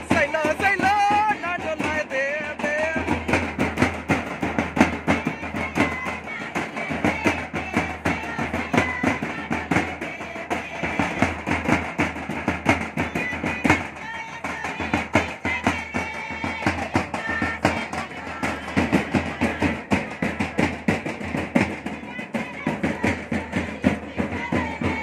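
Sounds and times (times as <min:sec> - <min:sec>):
festive music with fast drums: 0:00.0 - 0:25.0.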